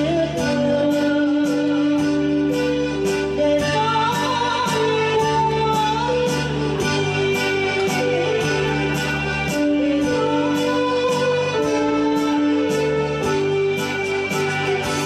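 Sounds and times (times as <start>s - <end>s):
instrumental accompaniment with light beat: 0.0s - 15.0s
woman singing into microphone: 0.0s - 15.0s.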